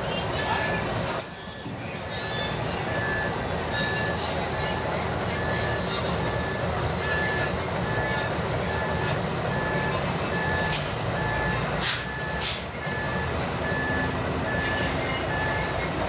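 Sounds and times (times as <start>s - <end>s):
diesel engine running: 0.0s - 16.0s
reversing alarm beeping: 2.2s - 15.9s.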